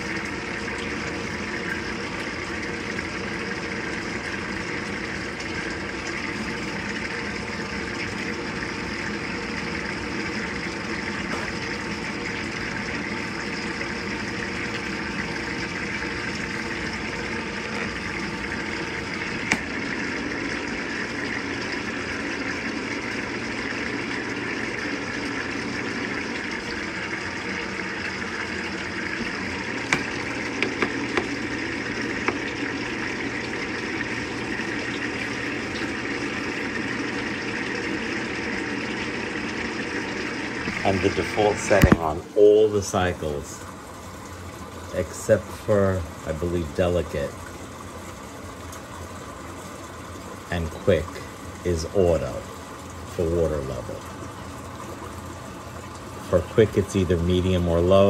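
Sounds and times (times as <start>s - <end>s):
water pouring into washing machine: 0.0s - 58.0s.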